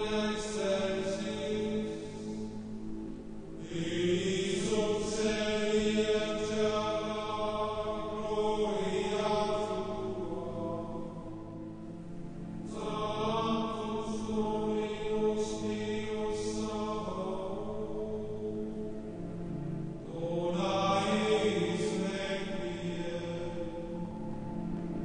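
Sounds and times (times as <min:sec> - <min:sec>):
slow chanting: 0:00.0 - 0:25.0
steady drone: 0:00.0 - 0:25.0.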